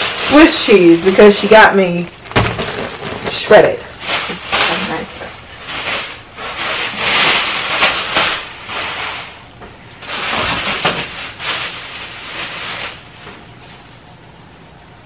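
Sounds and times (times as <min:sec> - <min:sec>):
grocery bags rustling: 0:00.0 - 0:14.0.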